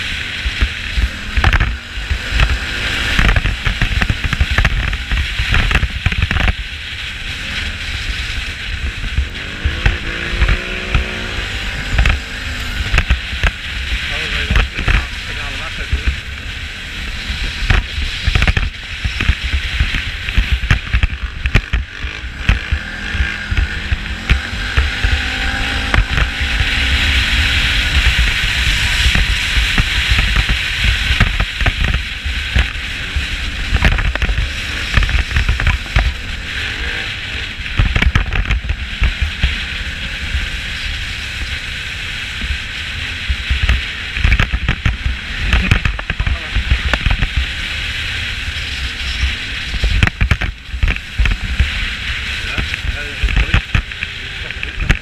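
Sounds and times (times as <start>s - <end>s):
atv engine rumble: 0.0s - 55.0s
tyres on gravel: 0.0s - 55.0s
wind rushing: 0.0s - 55.0s.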